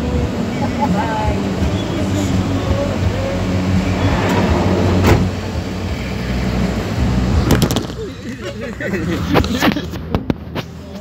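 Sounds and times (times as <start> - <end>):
van engine low hum: 0.0 - 11.0.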